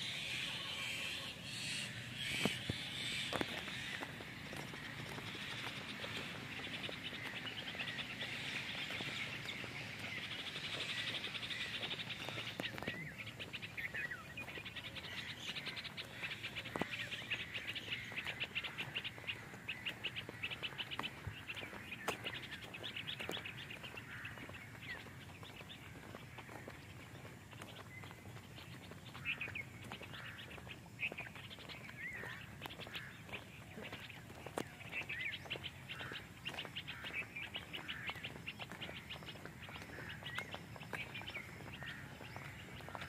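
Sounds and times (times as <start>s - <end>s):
birds chirping and chattering: 0.0s - 43.0s.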